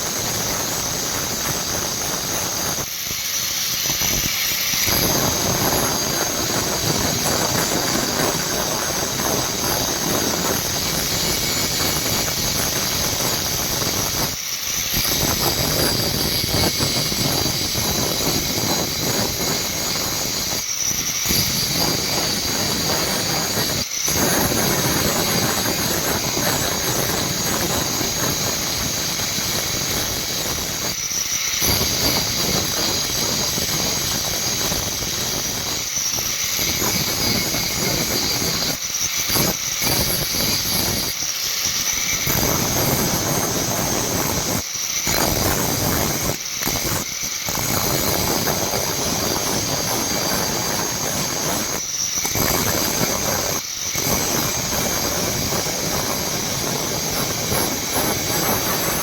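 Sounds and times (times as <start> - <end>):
grinder grinding steel: 0.0 - 59.0.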